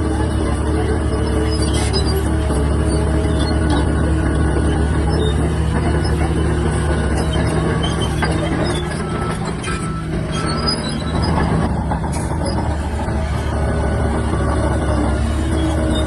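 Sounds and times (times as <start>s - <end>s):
bulldozer diesel engine running: 0.0s - 16.0s
steel tracks squeaking and clinking: 0.0s - 16.0s.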